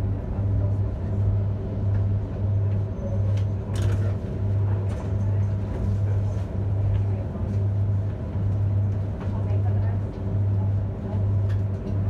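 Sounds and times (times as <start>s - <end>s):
train carriage electric hum: 0.0s - 12.0s.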